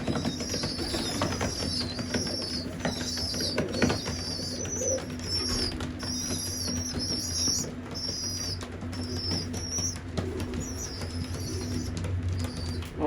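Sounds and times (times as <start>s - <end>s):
low steady hum: 0.0s - 13.0s
young pigeons peeping: 0.0s - 13.0s.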